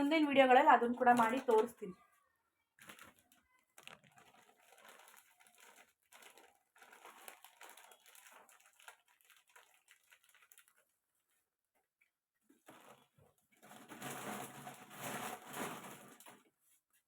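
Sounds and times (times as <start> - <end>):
plastic packets crinkling: 0.0 - 1.8, 2.8 - 11.0, 12.6 - 16.5.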